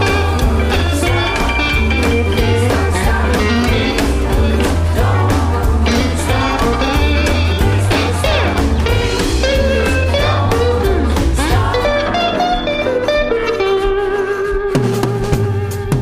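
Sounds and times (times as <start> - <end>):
bass line: 0.0 - 16.0
drum beat: 0.0 - 16.0.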